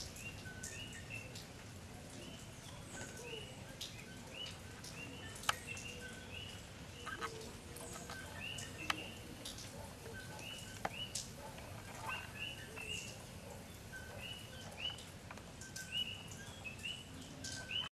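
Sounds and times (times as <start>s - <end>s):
low outdoor hiss: 0.0s - 17.9s
small birds chirping: 0.0s - 17.9s.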